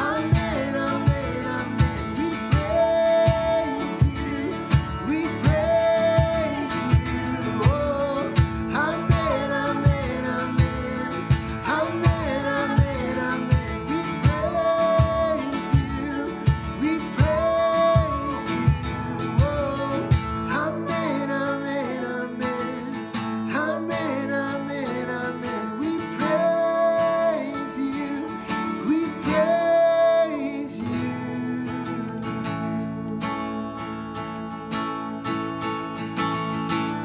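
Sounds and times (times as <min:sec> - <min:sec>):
person singing: 0:00.0 - 0:33.5
acoustic guitar strumming: 0:00.0 - 0:37.0.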